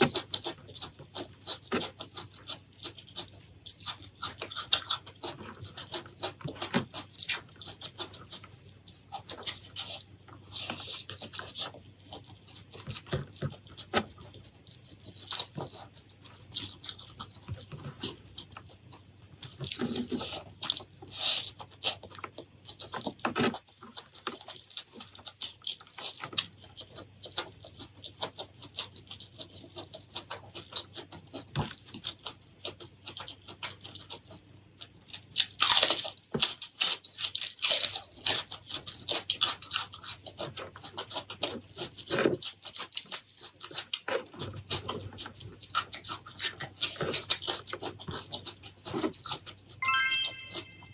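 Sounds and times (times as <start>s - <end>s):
wet chewing and lip-smacking: 0.0s - 49.8s.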